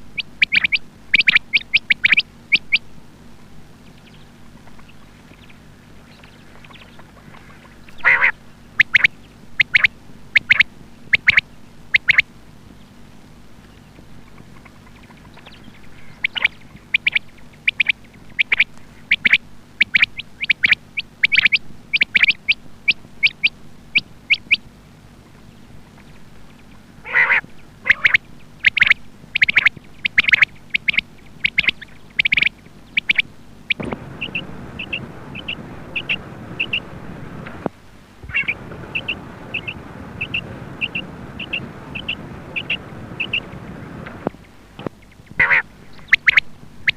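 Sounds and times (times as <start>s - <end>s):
quail calling: 0.0s - 2.9s, 3.9s - 12.3s, 14.2s - 24.7s, 25.8s - 46.9s
background hiss: 0.0s - 46.9s.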